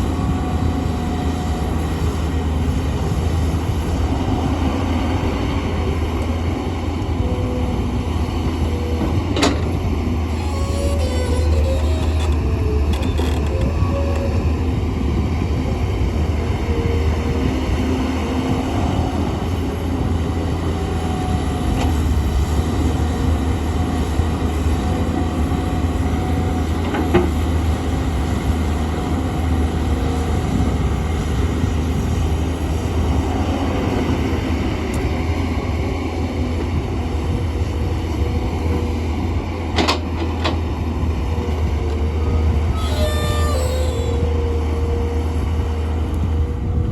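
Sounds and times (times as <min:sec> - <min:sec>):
excavator diesel engine rumbling: 0:00.0 - 0:46.9.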